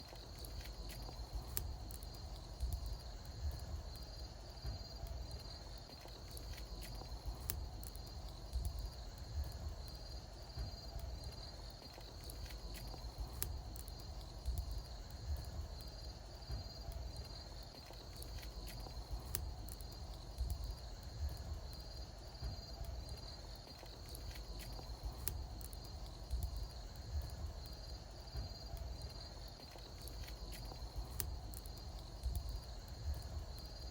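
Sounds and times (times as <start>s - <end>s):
bonfire crackling and popping: 0.0s - 33.9s
insects chirping: 0.0s - 33.9s.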